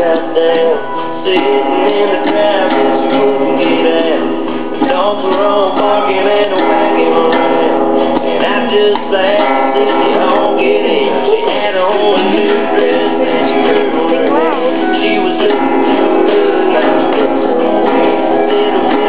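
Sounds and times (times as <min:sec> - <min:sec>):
acoustic guitar strumming: 0:00.0 - 0:19.0
boy singing: 0:00.0 - 0:19.0.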